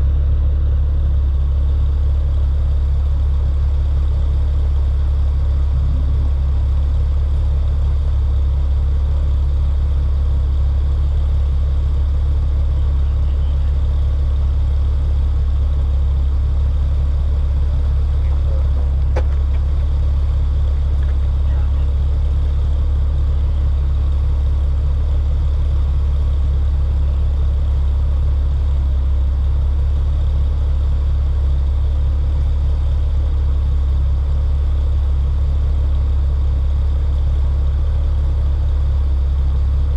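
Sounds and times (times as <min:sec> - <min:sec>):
car engine drone inside cabin: 0:00.0 - 0:39.9.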